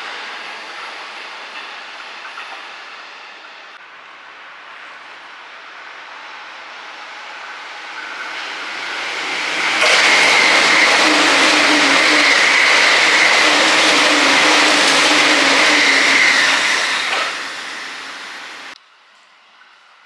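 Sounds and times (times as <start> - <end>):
electric train passing: 0.0 - 18.8.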